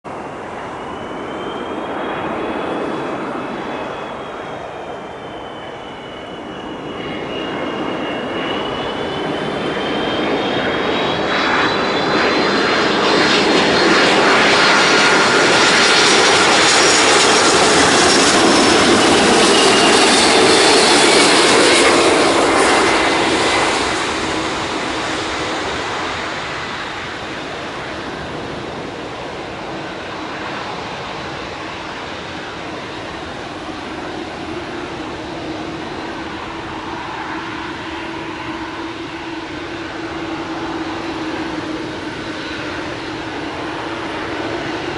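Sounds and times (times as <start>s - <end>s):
jet airliner passing overhead: 0.0s - 44.9s.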